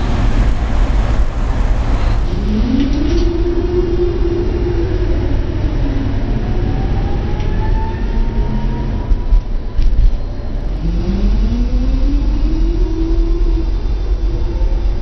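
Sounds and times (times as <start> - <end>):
higher climbing whine: 0.0 - 15.0
tram bogies rumbling: 0.0 - 15.0
tram motor whine: 0.0 - 15.0.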